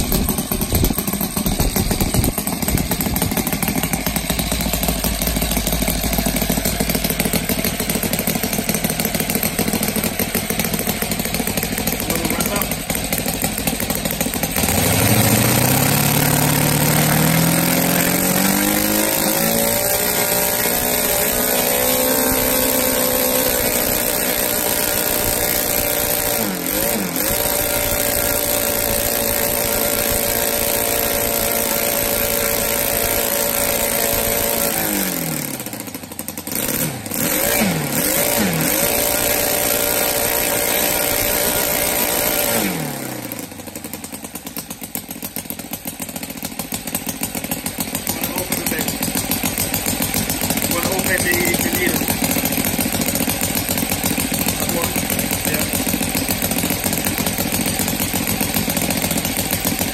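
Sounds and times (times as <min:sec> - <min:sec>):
model engine revving: 0:00.0 - 0:44.1, 0:46.4 - 0:59.9.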